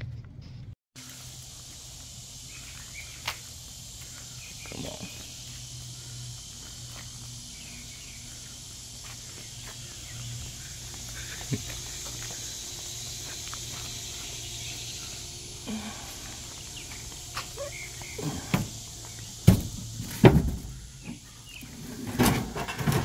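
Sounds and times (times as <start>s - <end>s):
constant low hum: 0.0s - 23.0s
high-pitched insect buzzing: 1.0s - 21.7s.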